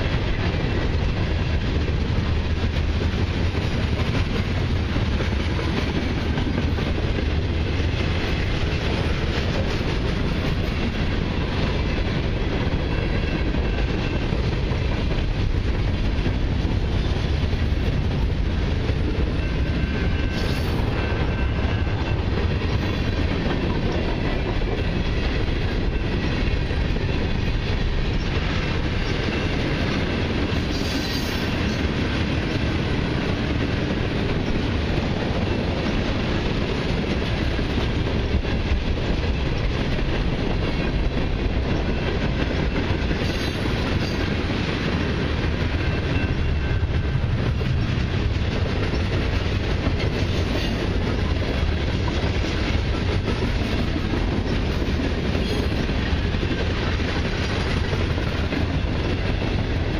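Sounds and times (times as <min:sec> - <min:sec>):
clickety-clack over rail joints: 0:00.0 - 0:59.9
freight train wheels rumbling on rail: 0:00.0 - 0:59.9.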